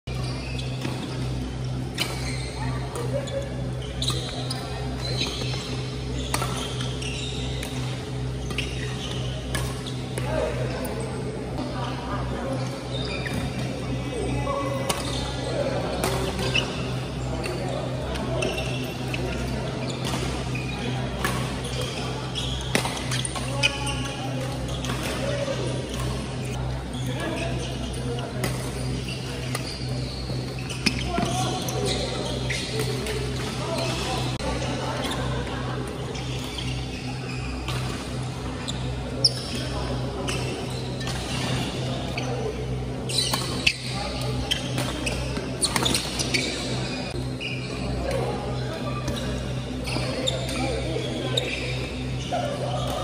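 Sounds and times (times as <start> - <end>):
shoes squeaking on wooden court: 0.1 - 53.0.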